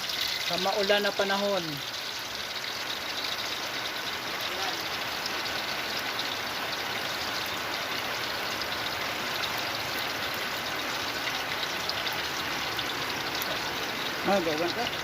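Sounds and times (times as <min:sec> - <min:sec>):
meat sizzling in hot oil: 0:00.0 - 0:15.0
oil crackling and popping: 0:00.0 - 0:15.0.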